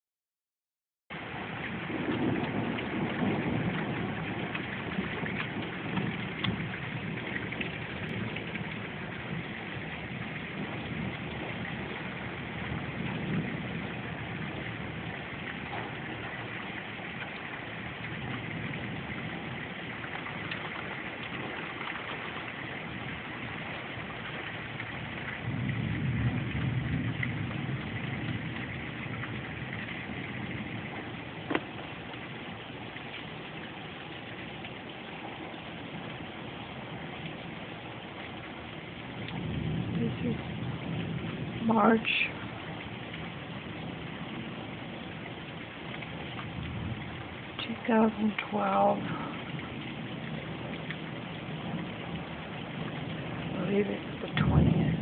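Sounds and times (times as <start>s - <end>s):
steady rain: 1.1s - 55.0s
thunder rumbling: 1.2s - 55.0s.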